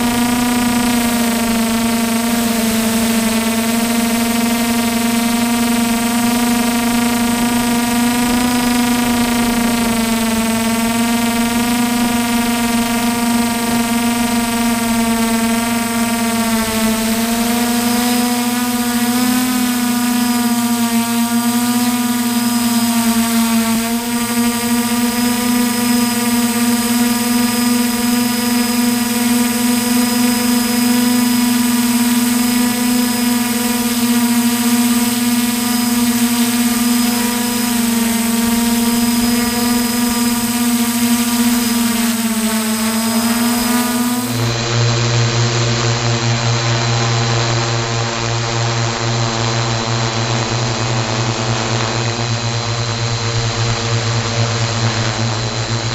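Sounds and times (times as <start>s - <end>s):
drone motors whining: 0.0s - 55.9s
low dull hum: 0.0s - 55.9s.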